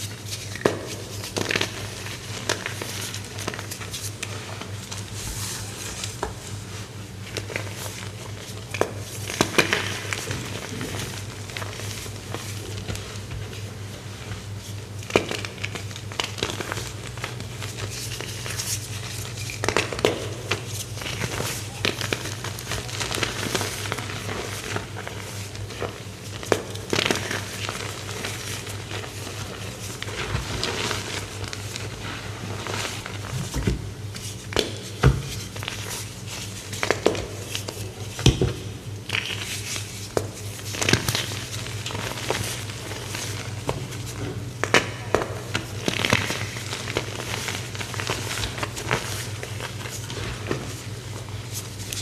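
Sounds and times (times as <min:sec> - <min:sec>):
crisp material crunching: 0:07.3 - 0:52.0.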